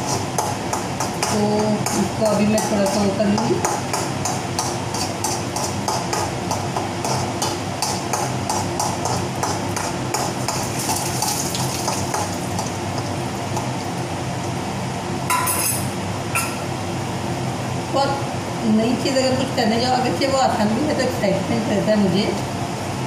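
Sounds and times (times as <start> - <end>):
fan hum: 0.0 - 23.0.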